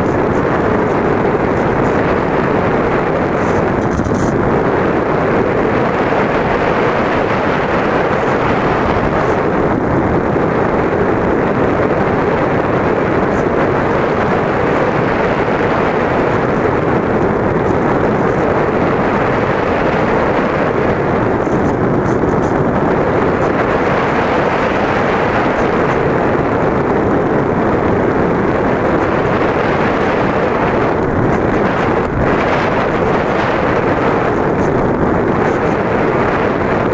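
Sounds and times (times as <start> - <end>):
air rushing on microphone: 0.0 - 36.9.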